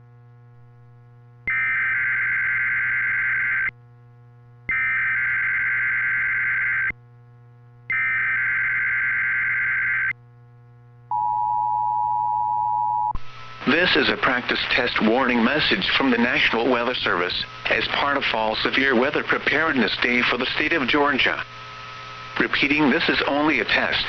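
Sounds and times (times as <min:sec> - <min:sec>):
receiver hum: 0:00.0 - 0:24.0.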